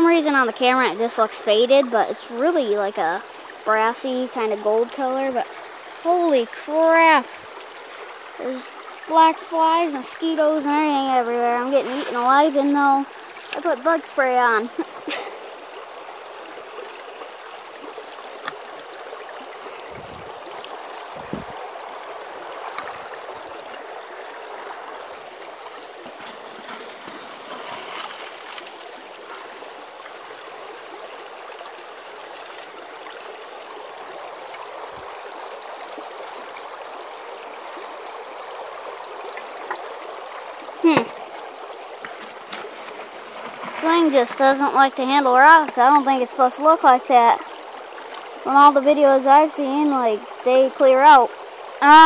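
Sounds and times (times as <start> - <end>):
water rushing through sluice box: 0.0 - 52.0.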